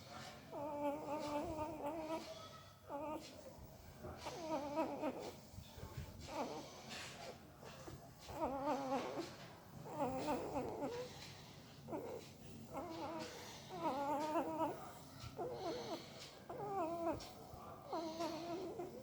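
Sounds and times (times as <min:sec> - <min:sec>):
puppy whimpering: 0:00.5 - 0:11.2, 0:11.9 - 0:19.0.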